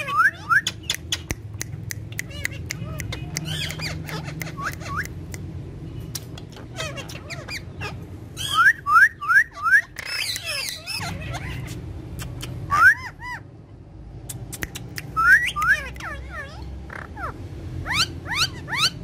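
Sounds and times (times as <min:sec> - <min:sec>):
parakeet chatter and clicks: 0:00.0 - 0:13.2, 0:14.1 - 0:19.0
parakeets squawking: 0:00.0 - 0:13.8, 0:14.4 - 0:19.0.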